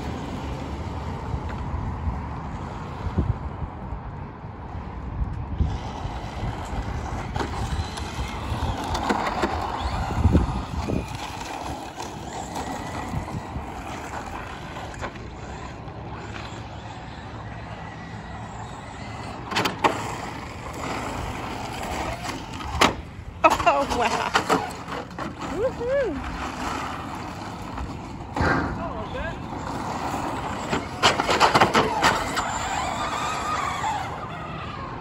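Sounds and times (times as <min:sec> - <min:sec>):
car passing: 0:00.0 - 0:35.0
electric toy car driving: 0:00.0 - 0:35.0.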